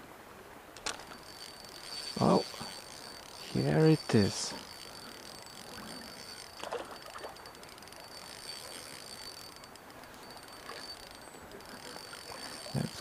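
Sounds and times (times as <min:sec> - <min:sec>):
fishing reel clicking: 0:00.8 - 0:13.0.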